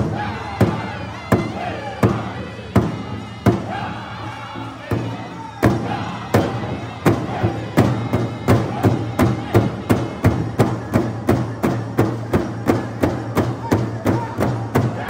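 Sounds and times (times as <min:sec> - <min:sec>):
big drum struck in unison: 0:00.0 - 0:04.0, 0:04.9 - 0:15.0
men and women singing: 0:00.0 - 0:10.8, 0:13.4 - 0:15.0.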